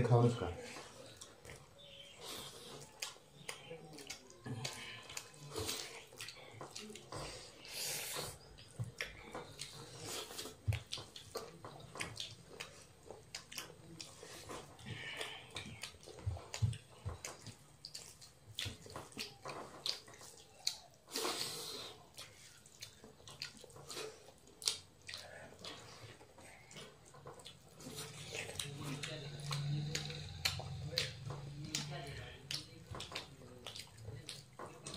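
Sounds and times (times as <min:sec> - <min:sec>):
people eating with hands: 0:00.0 - 0:34.9
chewing sounds: 0:00.1 - 0:34.9.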